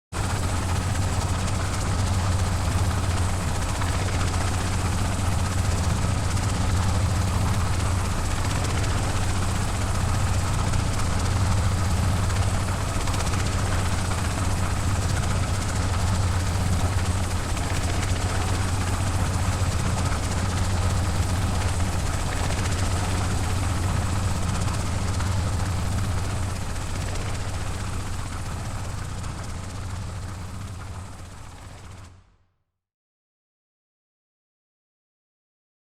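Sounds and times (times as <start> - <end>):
helicopter rotor drone: 0.2 - 32.3.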